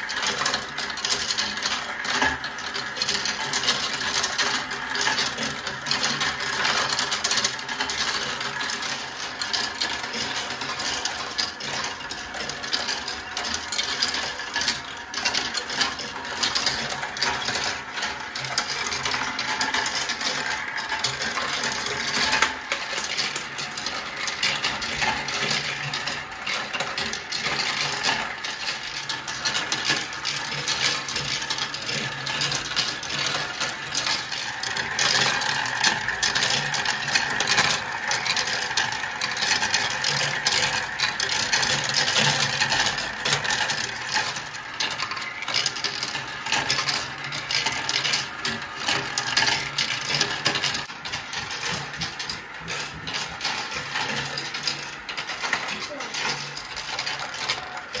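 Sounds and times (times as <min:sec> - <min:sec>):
marbles clattering on plastic tracks: 0:00.0 - 0:58.0.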